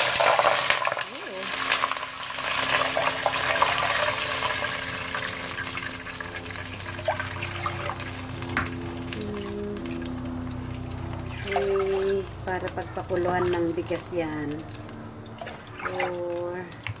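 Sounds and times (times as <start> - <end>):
water pouring into a pot: 0.0 - 17.0
soft background music: 0.2 - 16.8.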